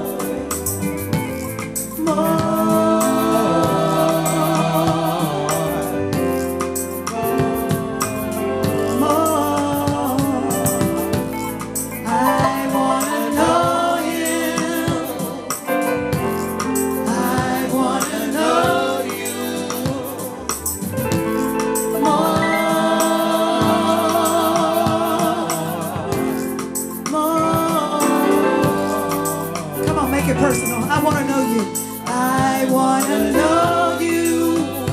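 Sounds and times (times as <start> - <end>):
choir singing gospel music: 0.0 - 34.9
instrumental accompaniment: 0.0 - 34.9.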